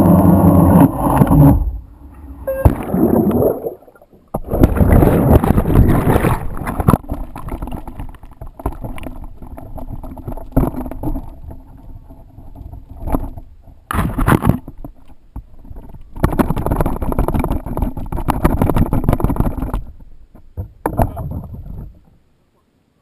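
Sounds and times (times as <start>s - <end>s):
muffled water sloshing: 0.0s - 22.1s.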